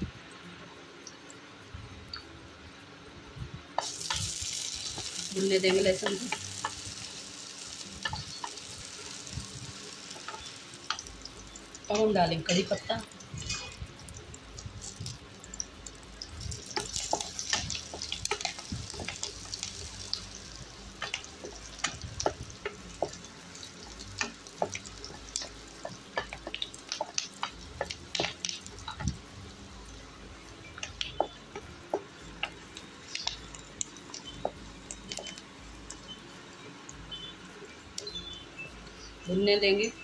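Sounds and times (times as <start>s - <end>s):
oil crackling and popping: 3.8s - 36.2s
food sizzling in hot oil: 3.8s - 39.2s.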